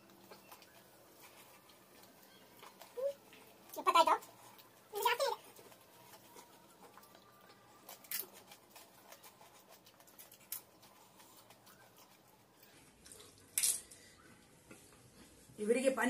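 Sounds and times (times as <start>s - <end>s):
crisp shells crackling and crunching: 0.0s - 14.2s.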